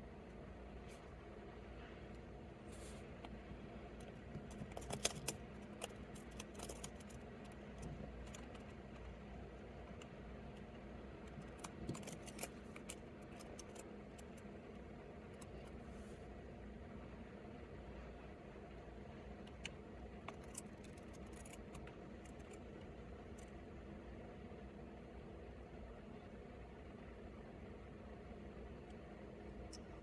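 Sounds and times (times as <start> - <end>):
faint scratching and clicking: 0.0 - 16.4, 17.9 - 24.2, 28.0 - 30.0
low steady hum: 0.0 - 30.0.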